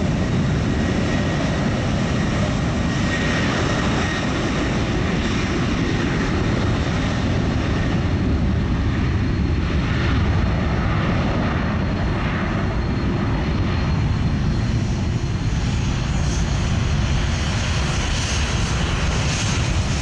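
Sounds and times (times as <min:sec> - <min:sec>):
jet engines rumbling with whine: 0:00.0 - 0:20.0.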